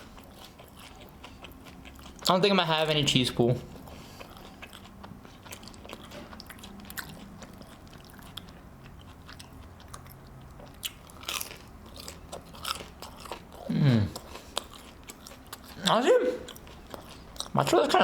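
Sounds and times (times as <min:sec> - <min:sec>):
crunching breading: 0:00.0 - 0:17.9
person chewing fried food: 0:00.0 - 0:18.0.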